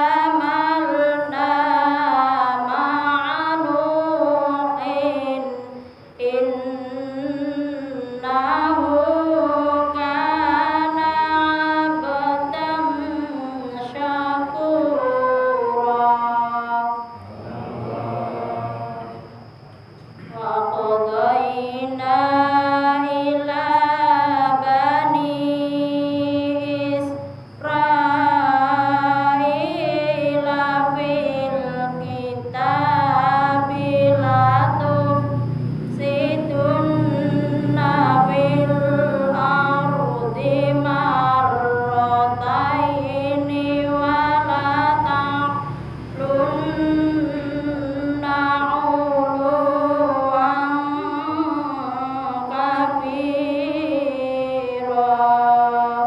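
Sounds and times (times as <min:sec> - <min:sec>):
woman reciting melodically: 0:00.0 - 0:56.0.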